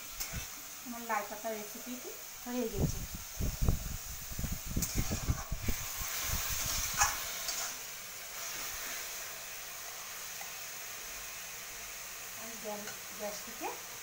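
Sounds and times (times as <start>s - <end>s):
greens sizzling in pan: 0.0s - 14.0s.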